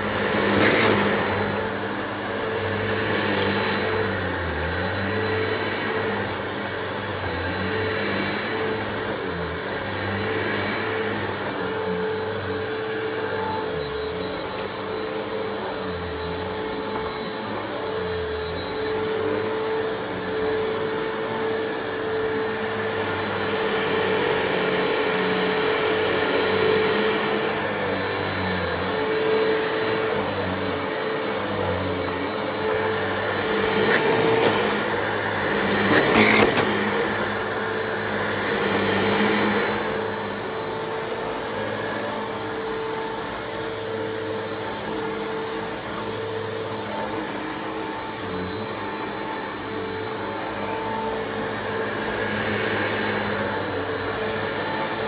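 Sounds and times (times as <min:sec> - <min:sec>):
vacuum cleaner motor hum: 0:00.0 - 0:55.0.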